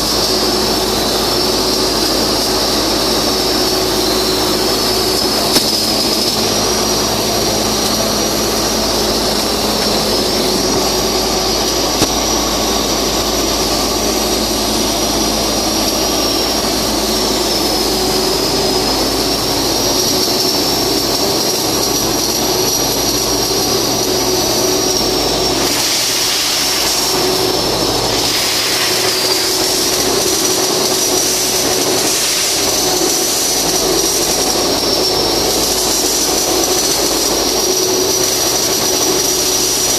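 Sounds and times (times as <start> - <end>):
high wavering whine: 0.0 - 39.9
welding arc hiss and crackle: 0.0 - 39.9.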